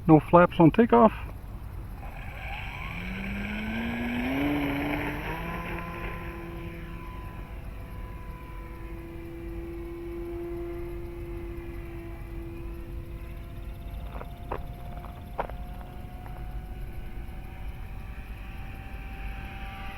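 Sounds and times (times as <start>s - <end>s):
model airplane motor whine: 0.8s - 19.9s.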